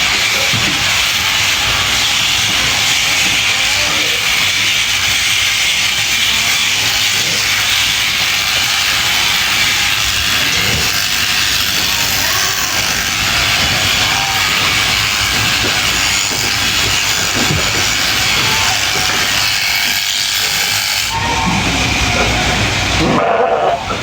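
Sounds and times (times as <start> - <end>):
electric shears buzzing: 0.0 - 24.0.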